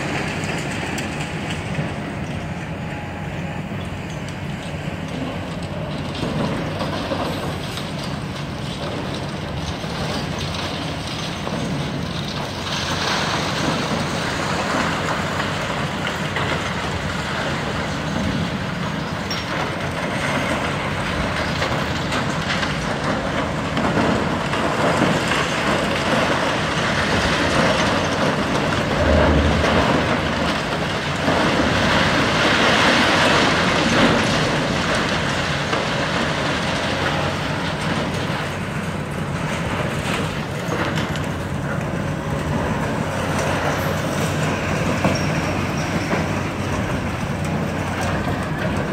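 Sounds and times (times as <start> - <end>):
diesel engine hum: 0.0 - 48.9
concrete crunching and clattering: 4.0 - 48.9.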